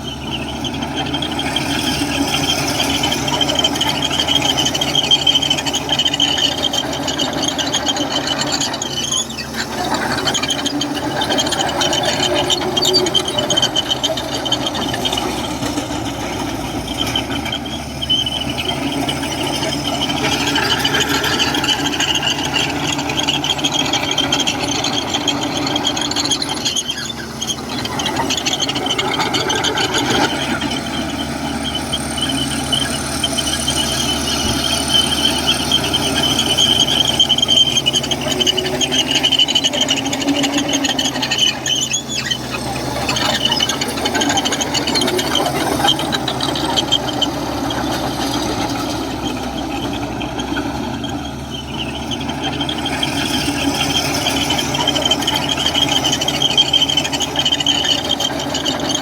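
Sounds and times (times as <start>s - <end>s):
bulldozer diesel engine running: 0.0s - 59.0s
high-pitched machine squeal: 0.0s - 59.0s.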